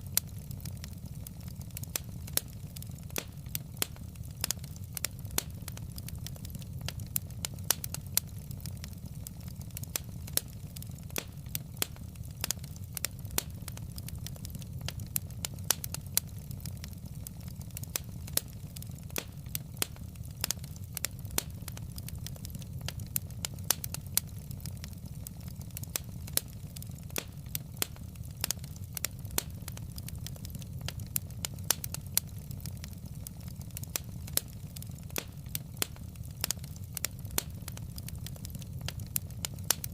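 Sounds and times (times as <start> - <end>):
low rumble of burning logs: 0.0 - 39.9
sharp pops and snaps: 0.0 - 39.9
wood fire crackling: 0.0 - 39.9.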